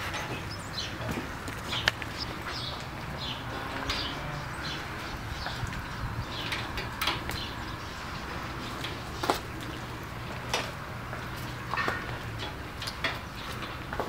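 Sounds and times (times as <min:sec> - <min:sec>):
cow hooves knocking on concrete: 0:00.0 - 0:14.0.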